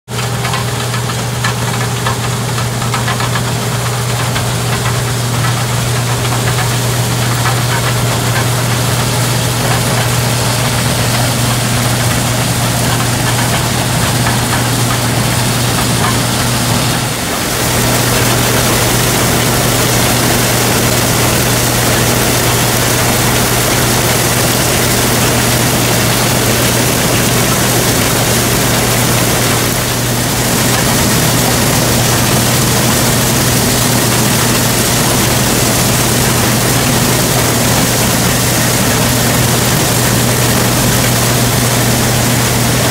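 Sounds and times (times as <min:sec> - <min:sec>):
combine harvester engine hum: 0:00.1 - 0:42.9.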